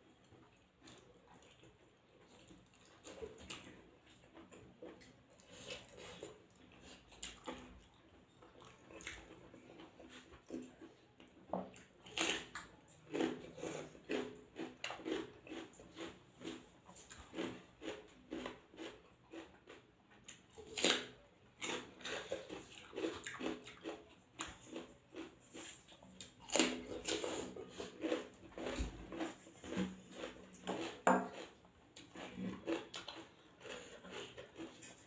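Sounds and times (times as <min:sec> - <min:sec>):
person chewing crunchy cucumber: 0:00.1 - 0:35.0.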